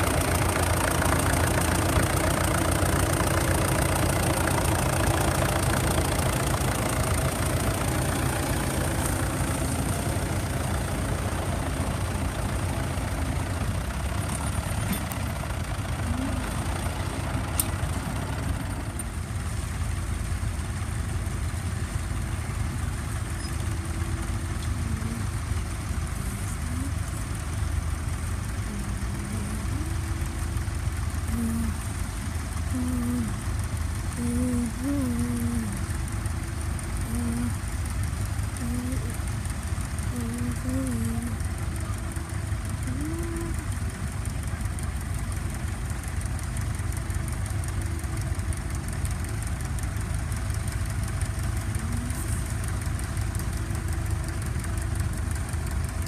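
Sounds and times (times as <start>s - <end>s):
tractor engines running under load: 0.0s - 56.0s.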